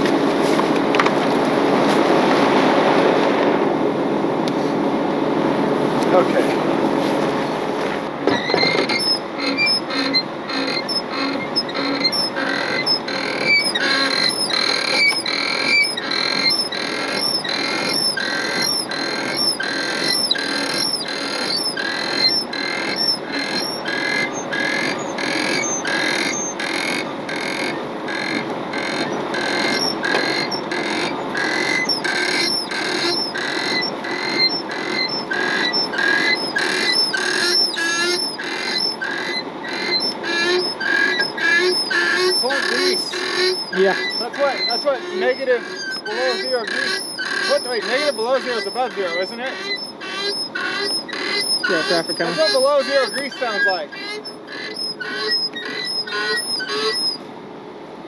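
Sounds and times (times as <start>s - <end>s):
rhythmic squeak: 8.2s - 57.2s
winch reeling in cable: 8.2s - 57.2s.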